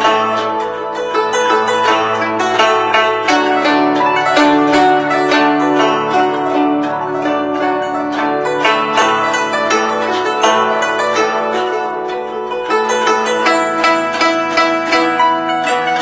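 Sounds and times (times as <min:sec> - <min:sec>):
plucked zither solo: 0:00.0 - 0:16.0.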